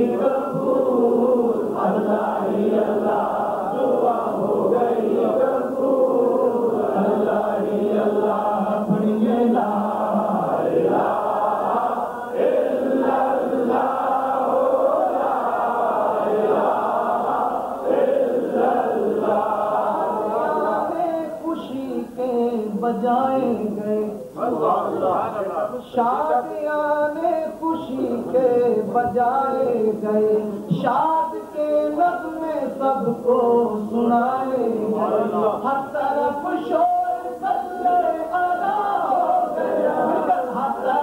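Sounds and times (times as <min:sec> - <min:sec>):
man singing devotional song: 0:00.0 - 0:12.4, 0:19.3 - 0:41.0.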